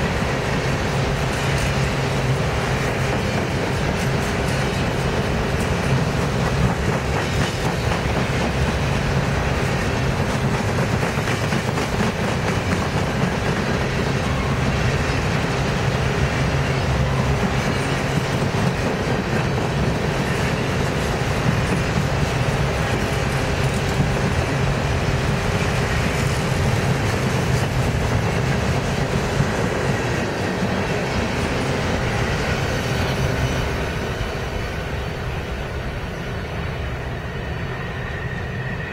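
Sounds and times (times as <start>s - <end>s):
steel train wheels rumbling on rail: 0.0s - 38.9s.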